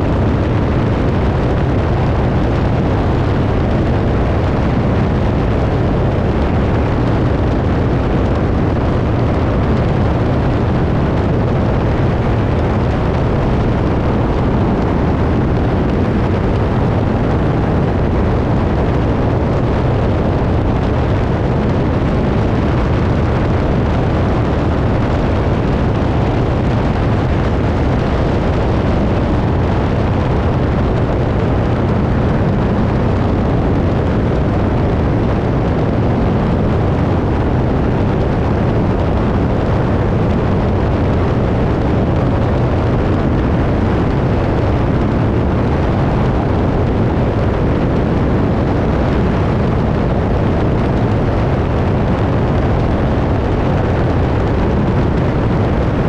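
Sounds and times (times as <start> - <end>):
plane engine and propeller drone: 0.0 - 56.0
rushing wind: 0.0 - 56.0.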